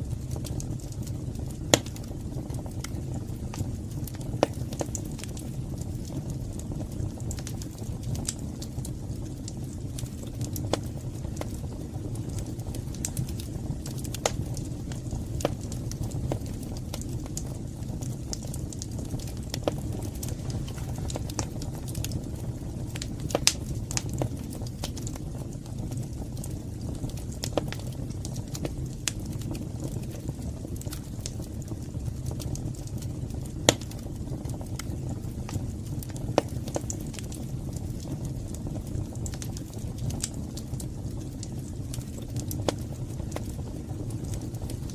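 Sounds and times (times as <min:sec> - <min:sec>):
fire low rumble: 0:00.0 - 0:44.9
wood fire crackling and popping: 0:00.0 - 0:44.9.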